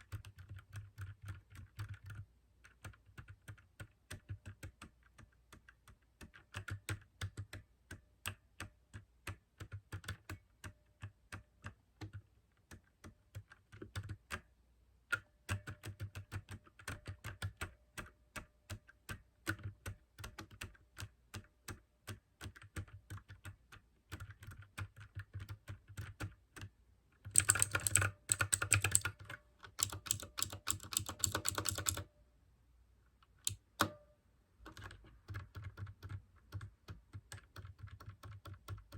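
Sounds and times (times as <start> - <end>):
mechanical keyboard typing: 0.0 - 14.5, 15.1 - 32.1, 33.2 - 34.0, 34.6 - 38.9.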